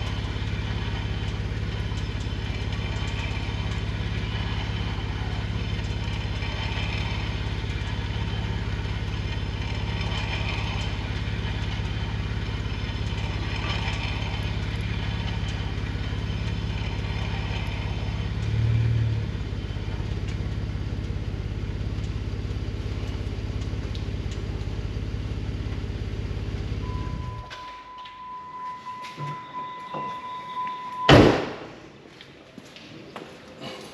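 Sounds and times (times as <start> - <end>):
car engine idling: 0.0 - 32.5.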